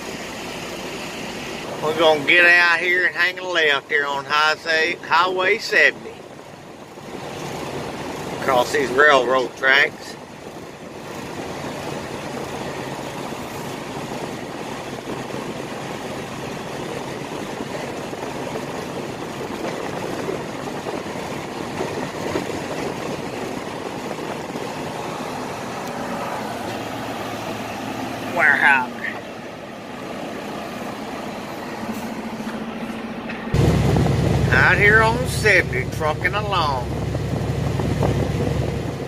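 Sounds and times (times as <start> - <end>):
road noise: 0.0 - 39.0
truck diesel engine: 0.0 - 39.0.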